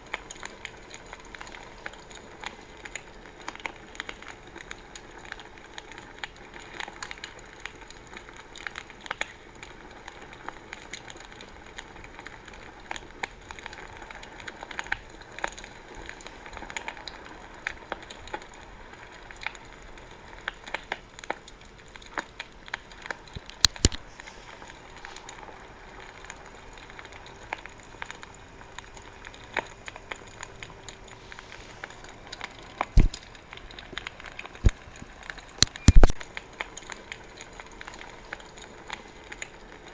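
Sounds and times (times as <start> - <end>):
bonfire crackling: 0.0 - 39.9
sharp fire cracks: 0.0 - 39.9.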